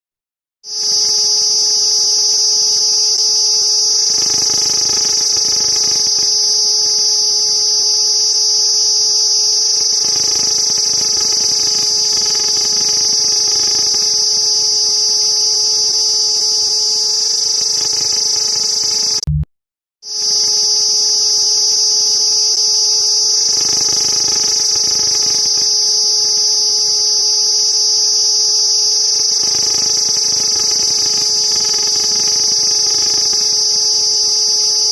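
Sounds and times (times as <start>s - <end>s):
cicada buzzing: 0.7s - 19.2s, 20.1s - 34.9s.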